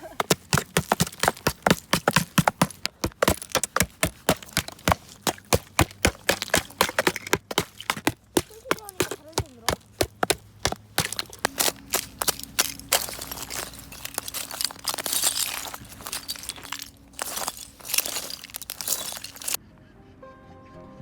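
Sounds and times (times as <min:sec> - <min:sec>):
ice cracking and crunching: 0:00.0 - 0:19.6.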